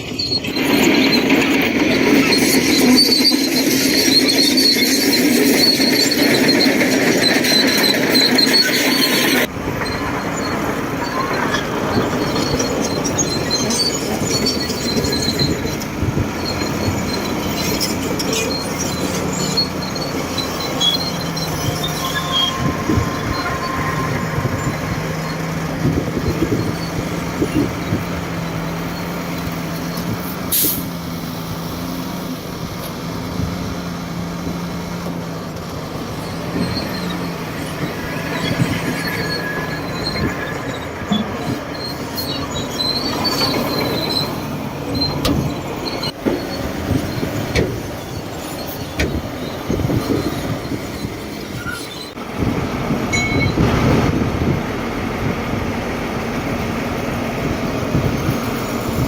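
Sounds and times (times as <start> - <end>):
bulldozer diesel engine running: 0.0 - 59.0
steel tracks clanking and squealing: 0.0 - 59.0.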